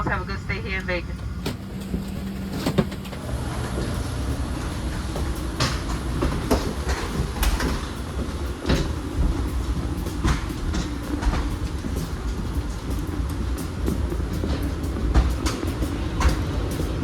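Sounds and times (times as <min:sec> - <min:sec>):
low cabin rumble: 0:00.0 - 0:17.0
luggage knocks and clatter: 0:01.4 - 0:17.0.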